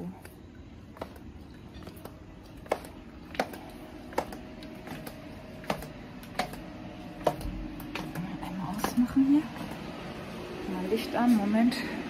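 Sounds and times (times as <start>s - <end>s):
faint steady hum: 0.0s - 12.0s
footsteps on outdoor stairs: 0.0s - 12.0s.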